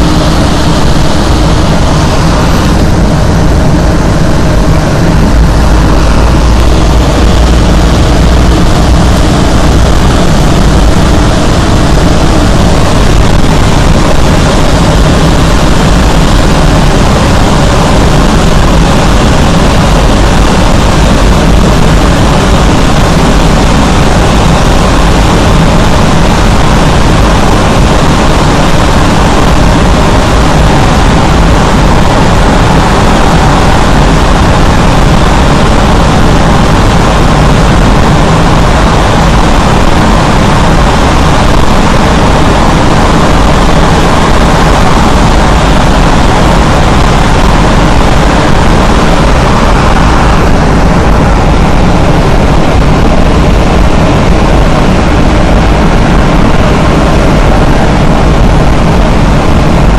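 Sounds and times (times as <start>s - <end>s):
surrounding traffic: 0.0s - 59.9s
vehicle engine and tyres droning: 0.0s - 59.9s.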